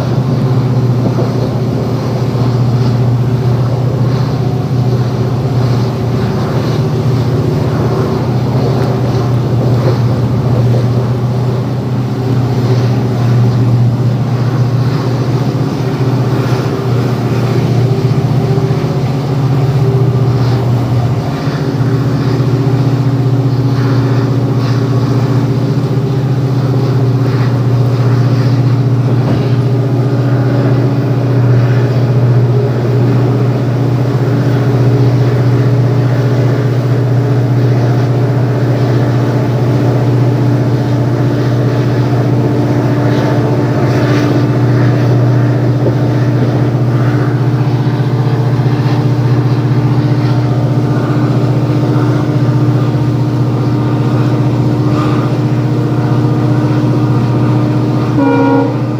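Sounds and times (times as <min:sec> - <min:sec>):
diesel locomotive engine drone: 0:00.0 - 0:58.9
wheel and track noise: 0:00.0 - 0:58.9.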